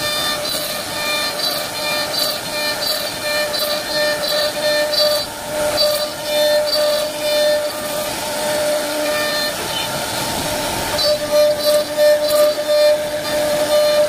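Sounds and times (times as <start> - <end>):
router spindle cutting wood: 0.0 - 14.0.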